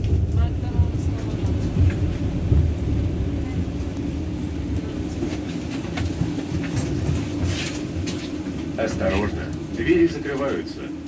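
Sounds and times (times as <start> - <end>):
tram equipment rumble and hum: 0.0 - 11.0.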